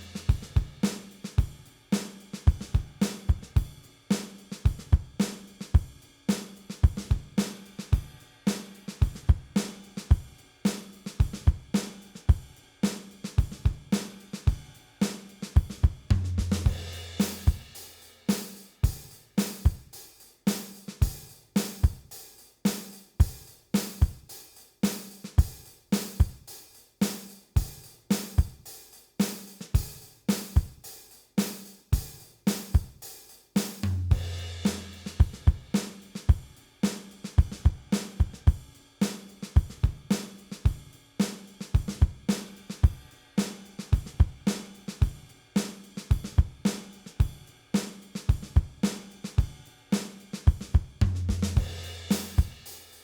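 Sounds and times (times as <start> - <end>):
drum kit beat: 0.0 - 53.0.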